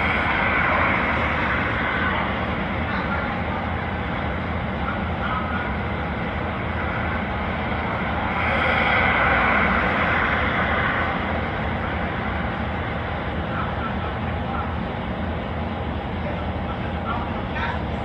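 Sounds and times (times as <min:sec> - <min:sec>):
vehicle rumble and hiss: 0:00.0 - 0:18.0.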